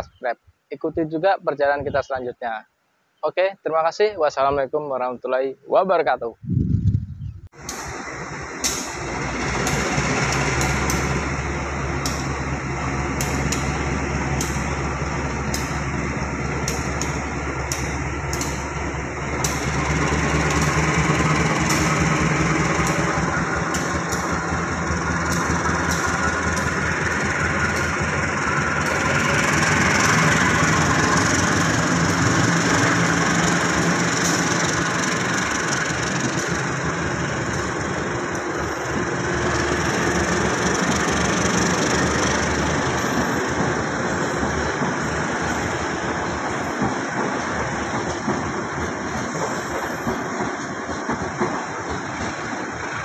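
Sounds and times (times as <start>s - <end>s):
diesel locomotive idling: 7.5s - 53.0s.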